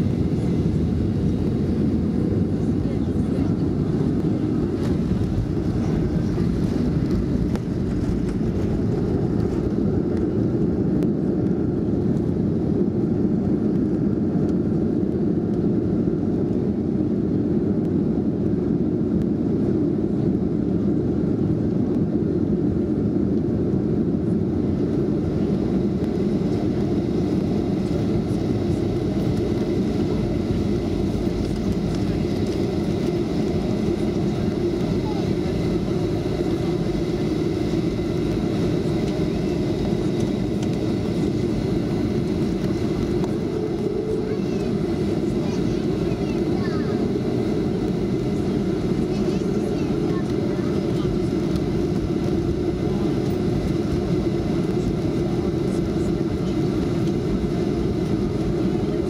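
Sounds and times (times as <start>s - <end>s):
jet airliner rumble in cabin: 0.0s - 59.0s.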